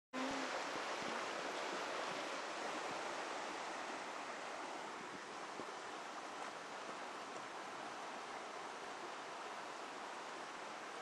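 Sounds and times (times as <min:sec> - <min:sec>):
flowing river water: 0:00.1 - 0:11.0.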